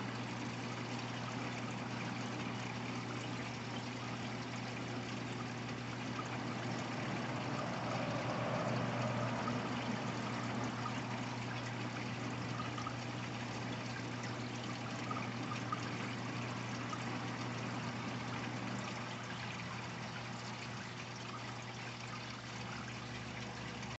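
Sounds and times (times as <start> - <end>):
low steady hum: 0.0 - 24.0
water noise: 0.0 - 24.0.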